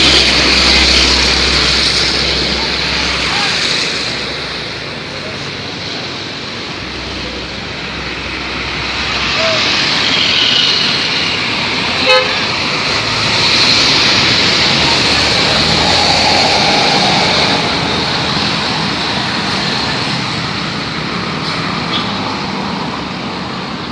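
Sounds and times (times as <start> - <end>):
bus passing: 0.0 - 23.9.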